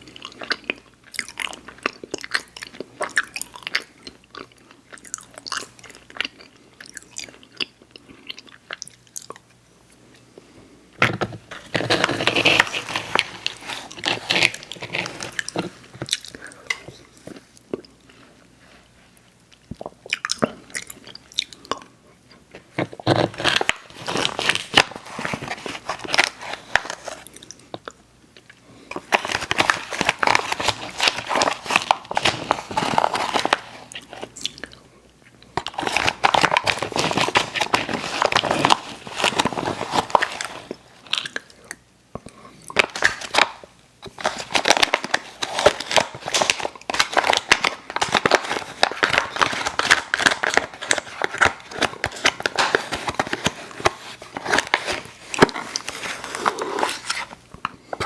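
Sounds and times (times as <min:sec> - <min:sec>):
mouth chewing candy: 0:00.0 - 0:09.6, 0:11.6 - 0:58.0.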